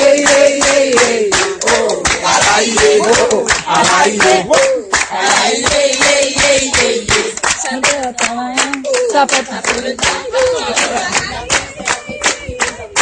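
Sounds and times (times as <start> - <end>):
group singing folk song: 0.0 - 13.0
hands clapping in rhythm: 0.0 - 13.0.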